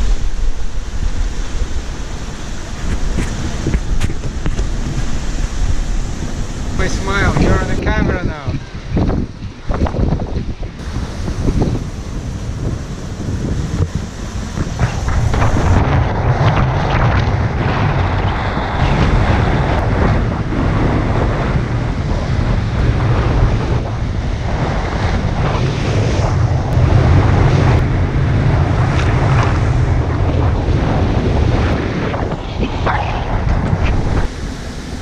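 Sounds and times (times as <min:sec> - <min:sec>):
waves breaking along hull: 0:00.0 - 0:35.0
wind buffeting microphone: 0:00.0 - 0:35.0.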